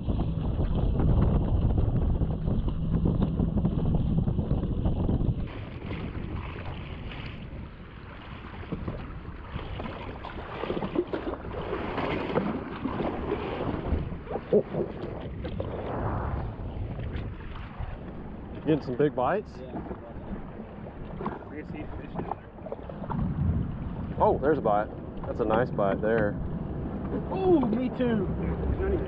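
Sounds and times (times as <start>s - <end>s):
jet ski engine: 0.0s - 29.0s
waves lapping against hull: 0.0s - 29.0s
wind buffeting microphone: 0.0s - 29.0s.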